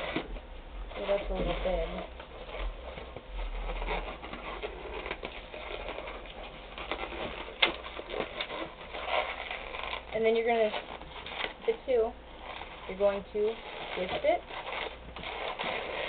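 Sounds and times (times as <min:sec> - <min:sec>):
balloon squeaking and rubbing: 0:00.0 - 0:16.0.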